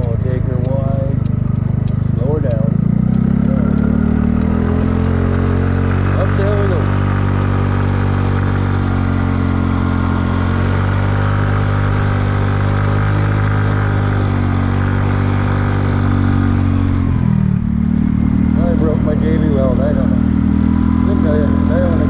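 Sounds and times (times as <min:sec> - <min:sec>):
scooter engine running: 0:00.0 - 0:22.0.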